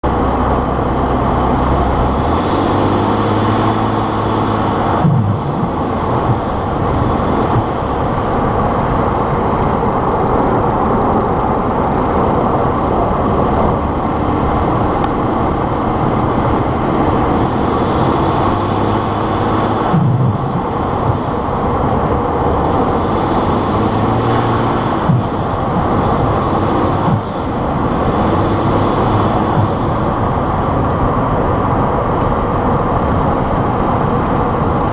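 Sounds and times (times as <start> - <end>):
truck engine running: 0.0 - 34.7
high turbo whine: 0.0 - 34.9.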